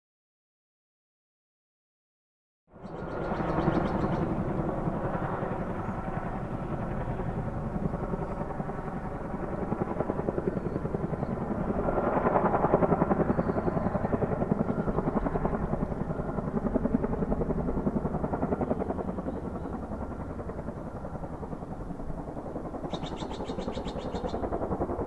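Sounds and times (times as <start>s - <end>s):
helicopter rotors chopping: 3.1s - 25.0s.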